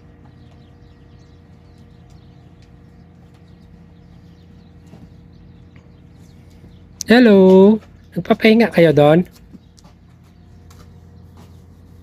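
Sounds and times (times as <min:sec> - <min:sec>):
horse hooves on sand: 0:00.0 - 0:12.0
low steady hum: 0:00.0 - 0:12.0.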